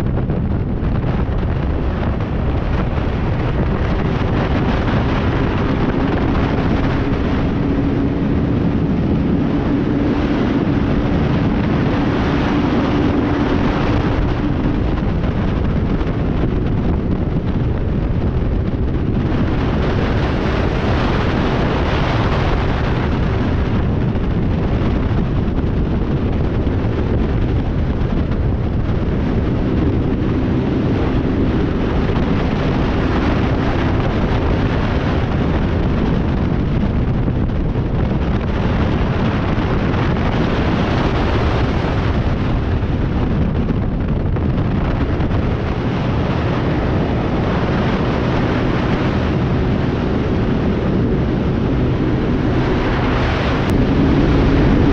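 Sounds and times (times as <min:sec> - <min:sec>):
motorcycle engine drone: 0:00.0 - 0:54.9
wind rush on microphone: 0:00.0 - 0:54.9.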